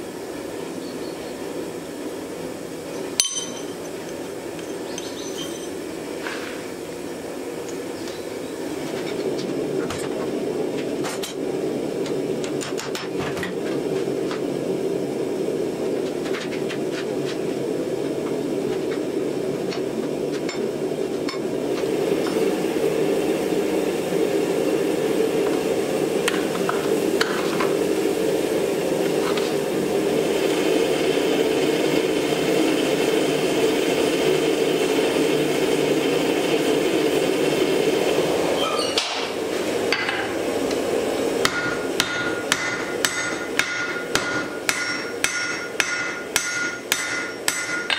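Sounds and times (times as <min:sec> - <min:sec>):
gas burner rushing: 0:00.0 - 0:47.9.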